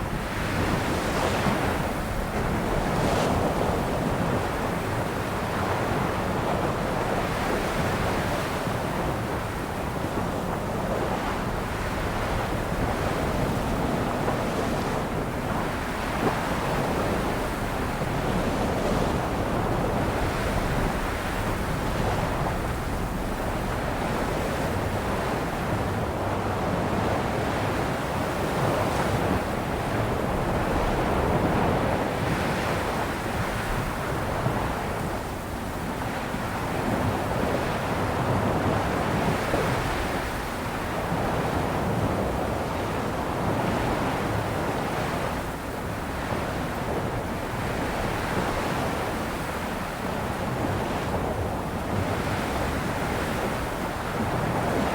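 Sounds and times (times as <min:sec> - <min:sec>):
sea waves washing on shore: 0:00.0 - 0:54.9.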